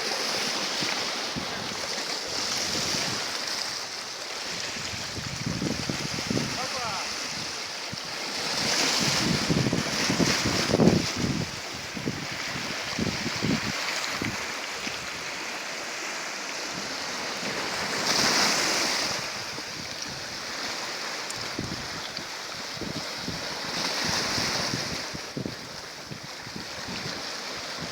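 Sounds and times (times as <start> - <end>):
sea waves washing ashore: 0.0 - 27.9
wind buffeting microphone: 0.8 - 3.7, 4.4 - 15.4, 16.7 - 27.9.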